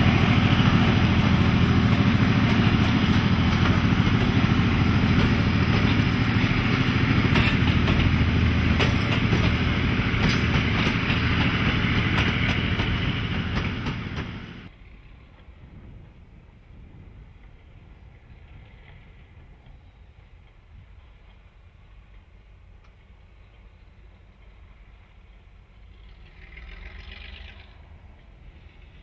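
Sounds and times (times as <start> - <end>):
diesel locomotive engine under load: 0.0 - 29.0
train wheels rumbling on rails: 0.0 - 29.0.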